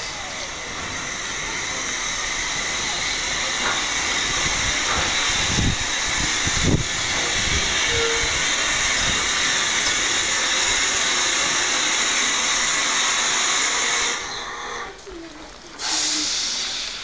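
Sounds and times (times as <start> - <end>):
steam hissing: 0.0 - 15.0, 15.7 - 17.0.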